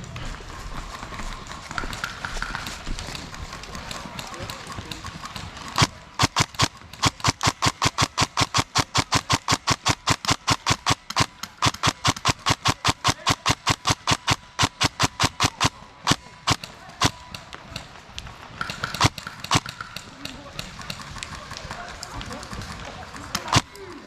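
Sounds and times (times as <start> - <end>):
airsoft rifle firing: 1.3 - 23.9.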